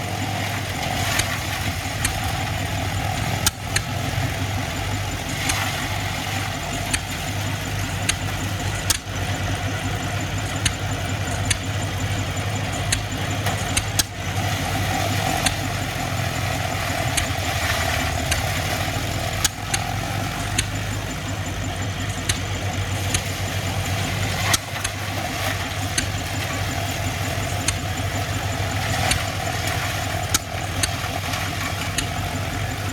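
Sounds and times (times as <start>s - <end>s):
tractor engine running: 0.0s - 32.9s
sharp clicks and knocks: 0.8s - 9.3s, 10.4s - 14.5s, 15.2s - 32.9s.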